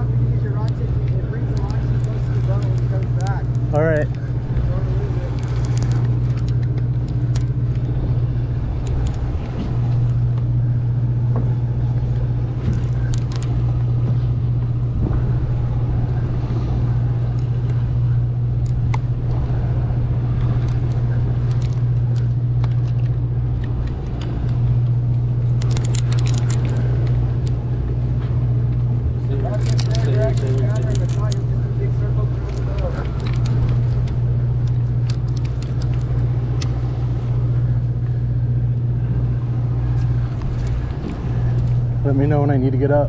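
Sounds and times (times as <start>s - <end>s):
low steady drone: 0.0s - 43.0s.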